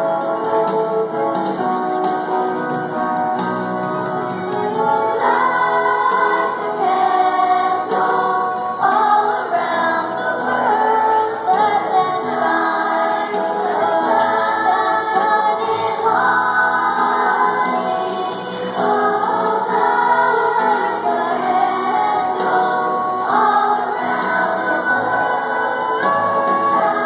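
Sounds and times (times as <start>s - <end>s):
children's choir singing: 3.9s - 27.0s.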